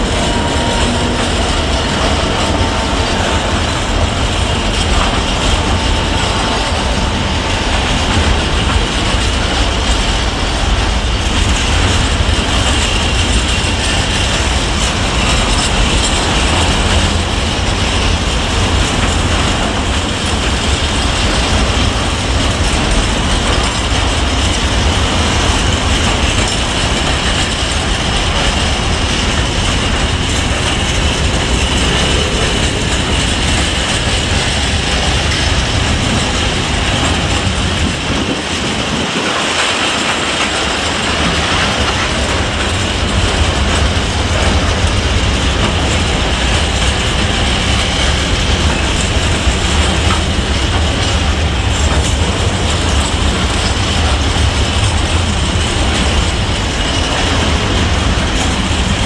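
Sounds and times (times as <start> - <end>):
freight train wheels rolling: 0.0 - 59.0
wagons clickety-clack rattling: 0.0 - 59.0.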